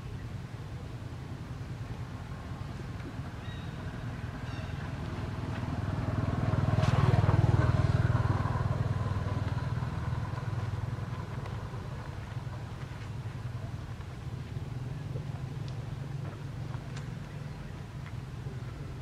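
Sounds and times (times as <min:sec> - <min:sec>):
passing vehicle engine rumble: 0:00.0 - 0:19.0.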